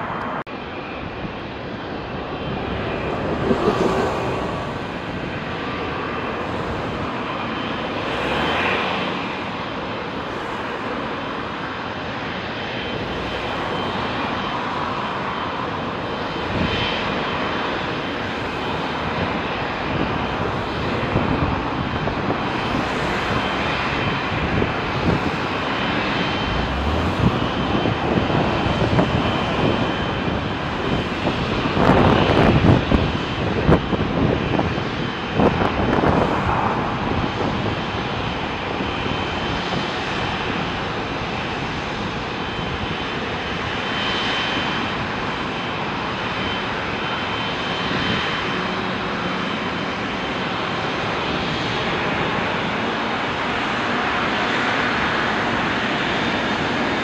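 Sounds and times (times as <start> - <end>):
jet engines taxiing: 0.0 - 57.0.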